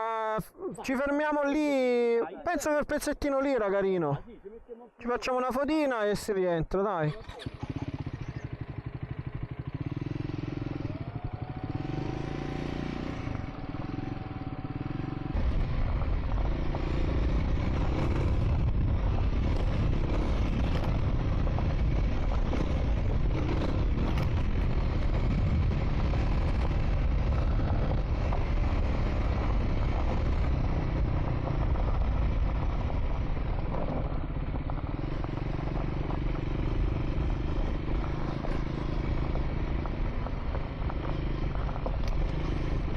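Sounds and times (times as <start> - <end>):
motorcycle engine running: 7.1 - 42.9.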